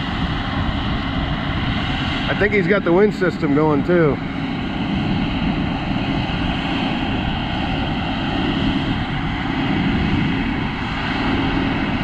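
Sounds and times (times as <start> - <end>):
engine drone with rushing noise: 0.0 - 12.0.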